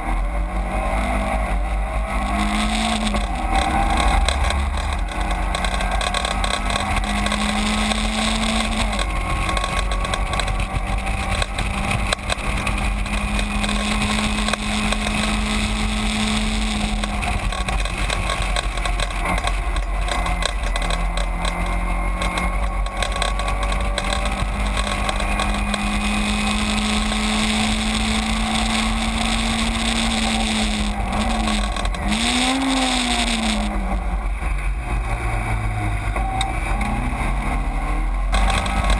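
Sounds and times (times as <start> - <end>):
race car engine at high revs: 0.0 - 38.9
wind and road rush: 0.0 - 38.9.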